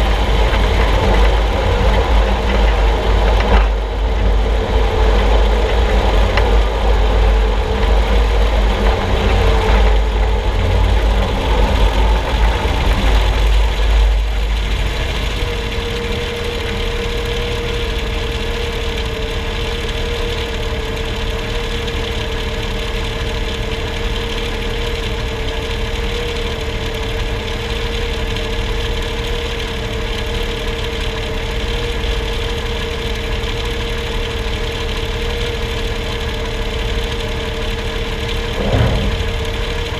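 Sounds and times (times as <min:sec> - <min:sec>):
truck engine idling: 0:00.0 - 0:39.9
truck road and drivetrain rumble: 0:00.0 - 0:39.9.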